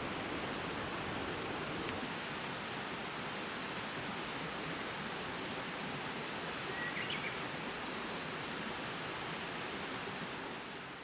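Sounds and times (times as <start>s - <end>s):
forest ambient hiss: 0.0s - 11.0s.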